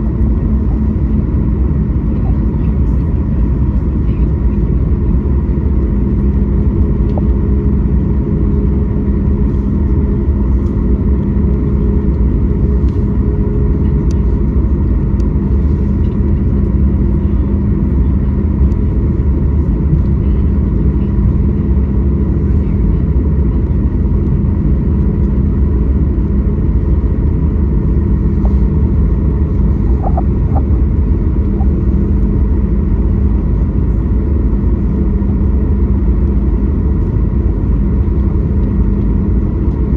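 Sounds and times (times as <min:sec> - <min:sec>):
airliner cabin engine drone: 0:00.0 - 0:39.9
steady hums: 0:00.0 - 0:39.9.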